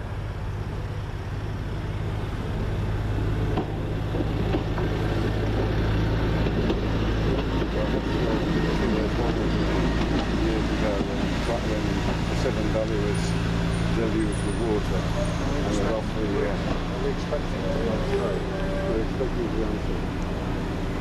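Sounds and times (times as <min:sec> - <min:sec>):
train engine droning: 0:00.0 - 0:21.0.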